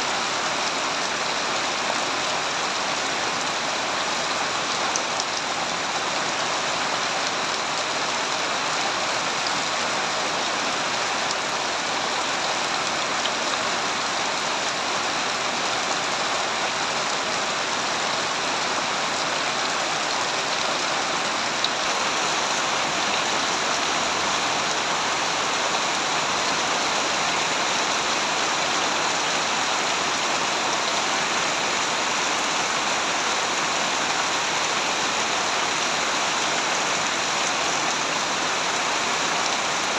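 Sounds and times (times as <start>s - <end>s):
heavy rain pattering: 0.1s - 39.9s.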